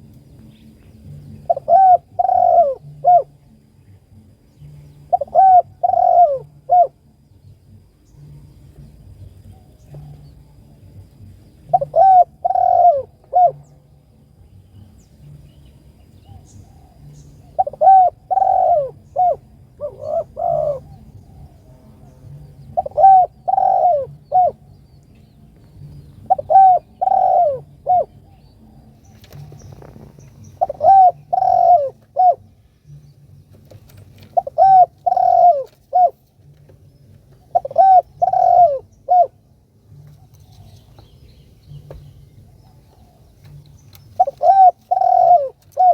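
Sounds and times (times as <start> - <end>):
dove cooing: 0.0 - 3.6, 4.6 - 7.1, 8.2 - 14.0, 16.2 - 45.9.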